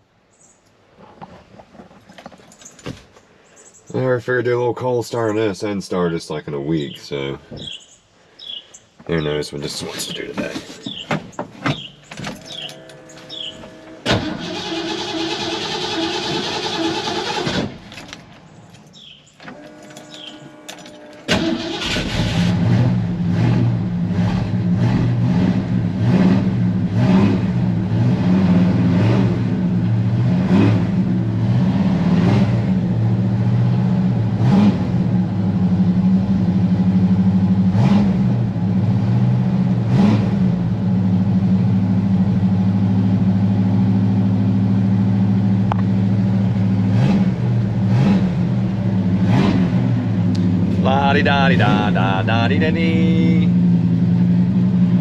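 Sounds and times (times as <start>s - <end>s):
truck engine starting and idling: 9.1s - 55.0s.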